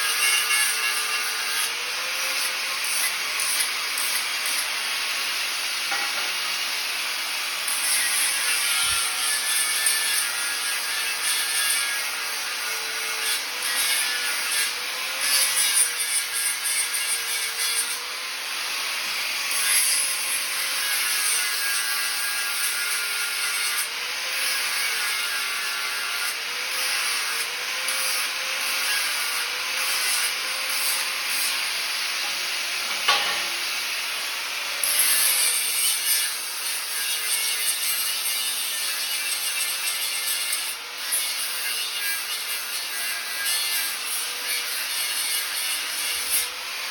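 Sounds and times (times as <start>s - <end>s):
angle grinder grinding steel: 0.0s - 46.9s.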